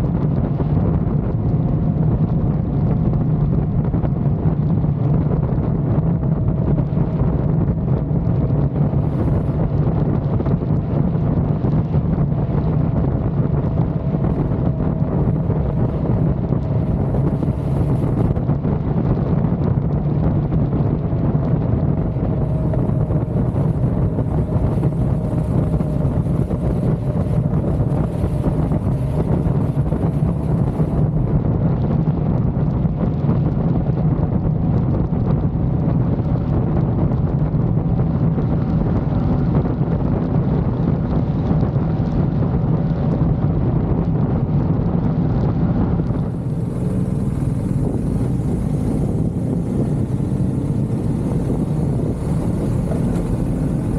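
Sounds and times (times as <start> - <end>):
vehicle low rumble: 0.0 - 53.9
wind noise on microphone: 0.0 - 53.9.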